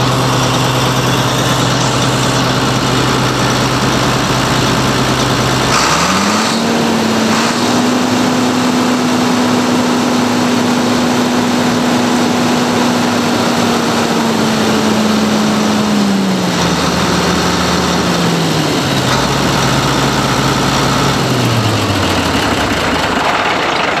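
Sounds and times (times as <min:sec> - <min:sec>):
tractor diesel engine revving: 0:00.0 - 0:24.0.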